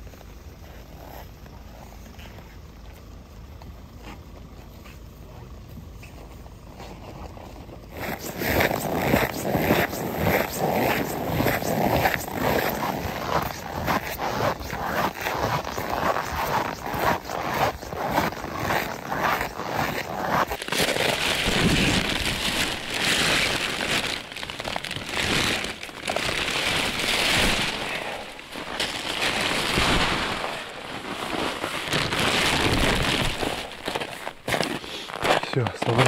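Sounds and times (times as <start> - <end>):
tent fabric rustling and crinkling: 0.0 - 2.6, 3.8 - 36.0
quick crackles: 6.0 - 36.0.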